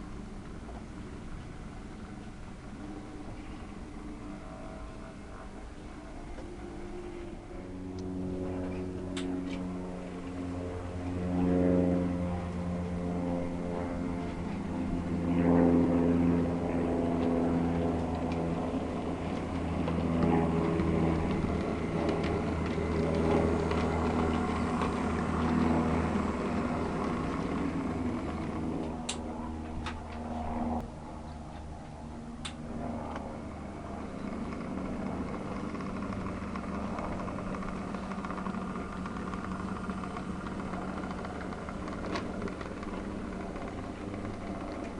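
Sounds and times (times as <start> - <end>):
model diesel locomotive engine: 0.0 - 44.9.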